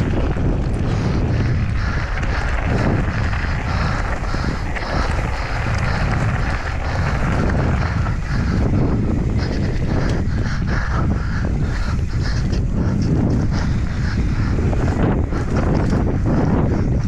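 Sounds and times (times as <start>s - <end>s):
bike tyres crunching on gravel: 0.0s - 17.0s
wind buffeting microphone: 0.0s - 17.0s.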